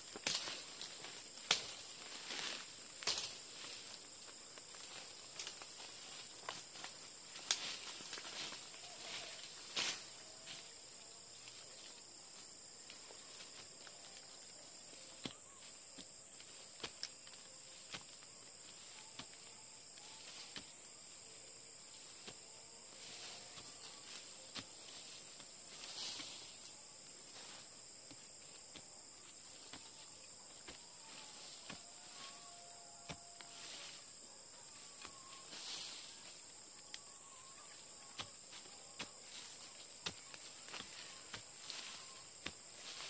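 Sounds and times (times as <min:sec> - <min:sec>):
high-pitched insect drone: 0:00.0 - 0:43.0.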